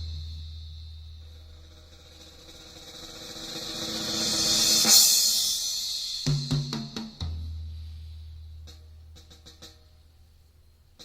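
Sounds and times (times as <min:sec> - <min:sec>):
drum music over loudspeaker: 0:00.0 - 0:10.0.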